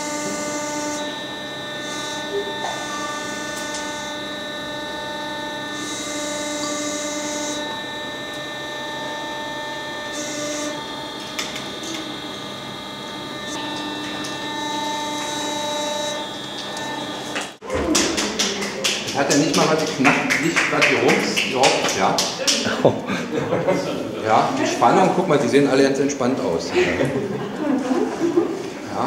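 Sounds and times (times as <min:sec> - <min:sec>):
furnace humming: 0:00.0 - 0:29.0.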